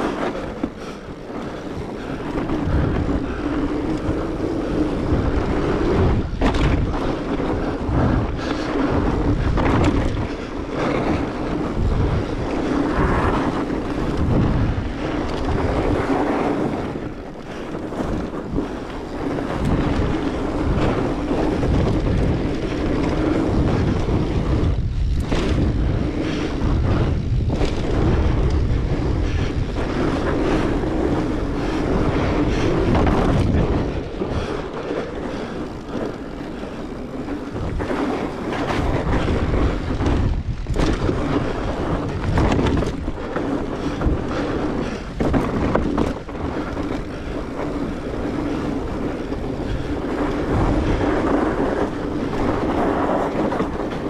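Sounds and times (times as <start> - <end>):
bike tires rolling over snow: 0.0 - 54.0
wind buffeting microphone: 0.0 - 54.0.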